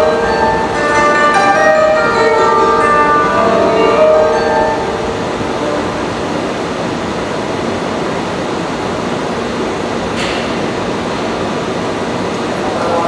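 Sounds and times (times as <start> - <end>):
electric train running: 0.0 - 13.0.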